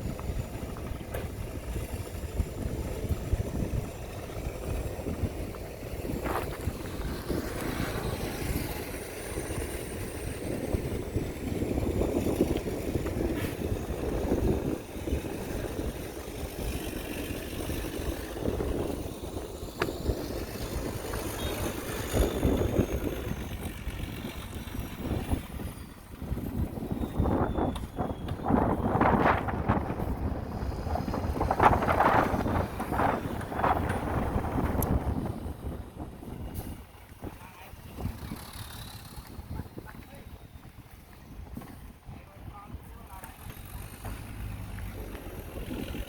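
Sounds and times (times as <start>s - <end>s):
heavy machinery diesel engine rumble: 0.0s - 46.0s.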